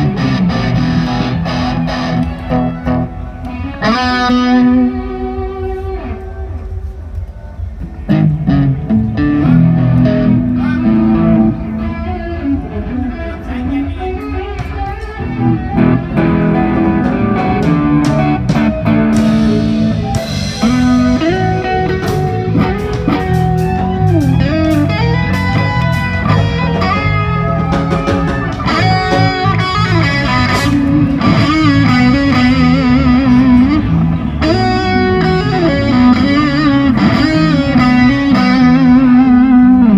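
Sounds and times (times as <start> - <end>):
bass line: 0.0 - 39.9
electric guitar melody: 0.0 - 39.9
live band playing: 0.0 - 39.9.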